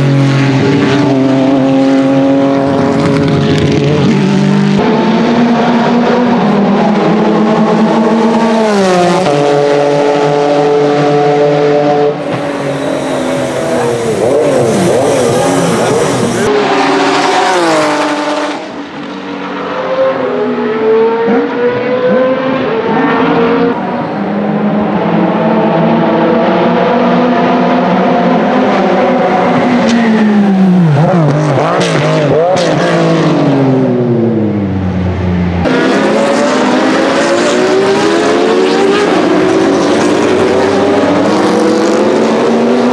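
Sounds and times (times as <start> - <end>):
race car engines revving: 0.0 - 42.9
race cars passing by: 0.0 - 42.9.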